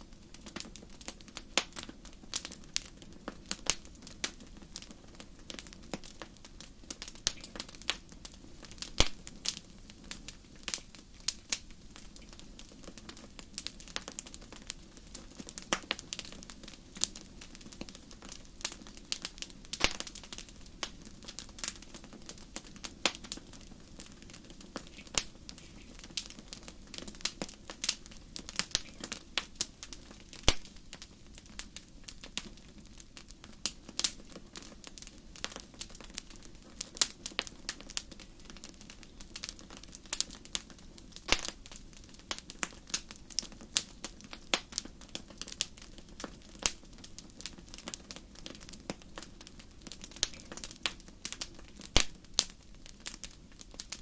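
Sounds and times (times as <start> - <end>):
fire crackling: 0.0 - 54.0
soft low hiss: 0.0 - 54.0.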